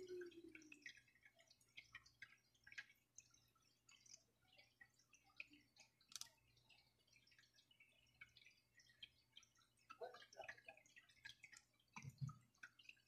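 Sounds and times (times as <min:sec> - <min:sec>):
faint wet clicks: 0:00.0 - 0:13.0.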